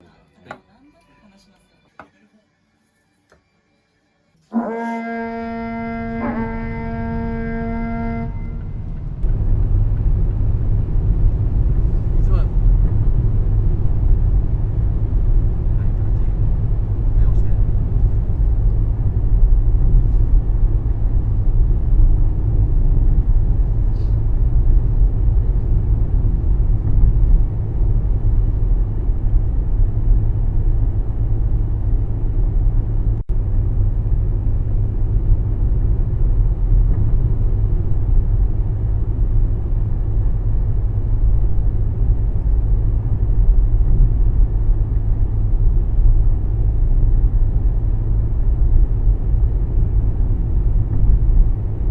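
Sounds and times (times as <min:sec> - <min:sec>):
car road and engine rumble: 0:04.6 - 0:51.9.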